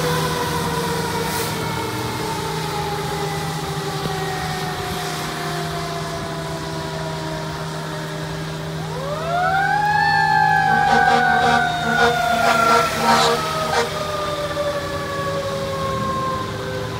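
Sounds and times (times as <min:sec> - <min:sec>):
fire engine siren wailing: 0:00.0 - 0:16.9.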